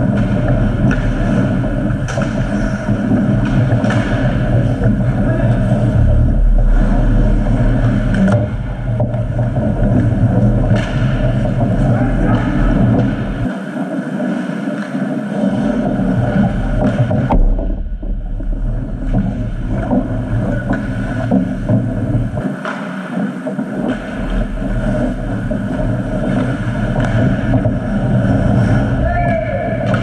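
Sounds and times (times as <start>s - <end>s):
arena rumble: 0.0s - 13.7s, 15.1s - 22.6s, 23.4s - 30.0s
skates and sticks scraping ice: 0.0s - 17.4s, 18.6s - 30.0s.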